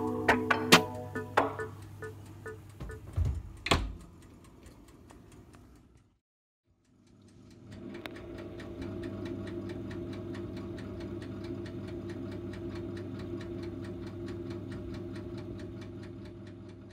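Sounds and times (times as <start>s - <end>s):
electric oven humming: 0.0s - 6.2s, 6.8s - 16.9s
mechanical timer ticking: 0.0s - 16.9s.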